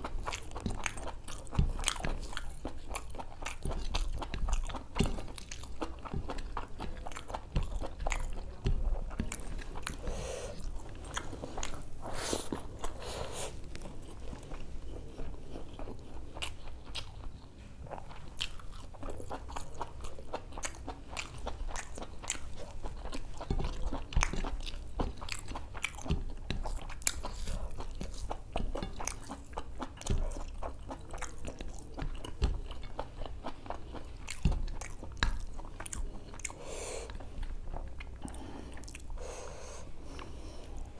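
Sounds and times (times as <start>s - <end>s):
close-miked chewing: 0.0s - 40.9s.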